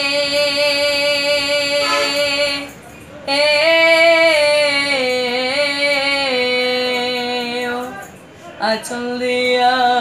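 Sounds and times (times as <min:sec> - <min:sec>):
boy singing unaccompanied: 0:00.0 - 0:10.0.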